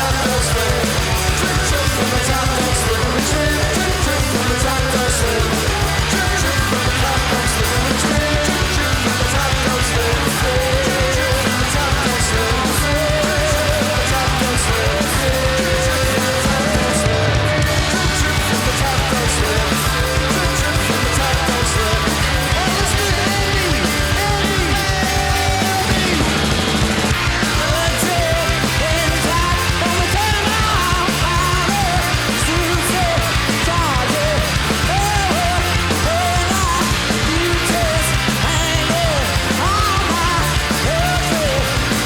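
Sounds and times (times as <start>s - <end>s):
heavy rock band playing: 0.0s - 42.0s.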